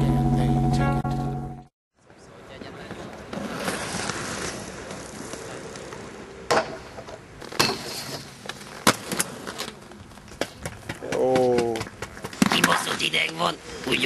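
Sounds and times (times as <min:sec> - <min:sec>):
skates clacking on ground: 0:02.0 - 0:13.6
skate wheels rolling on asphalt: 0:02.0 - 0:14.0.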